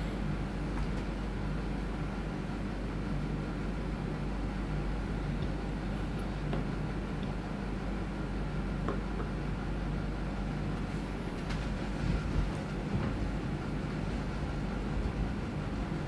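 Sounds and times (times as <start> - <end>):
faint hum: 0.0 - 16.0
low background rumble: 0.0 - 16.0.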